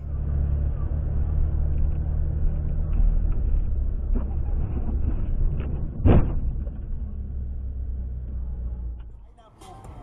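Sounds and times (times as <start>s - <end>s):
car engine rumble: 0.0s - 10.0s
road noise: 0.0s - 10.0s.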